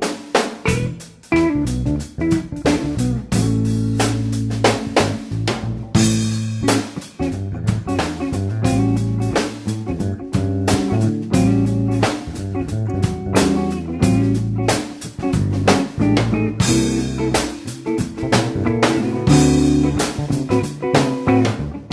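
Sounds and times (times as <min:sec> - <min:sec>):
blues-rock band music: 0:00.0 - 0:21.9.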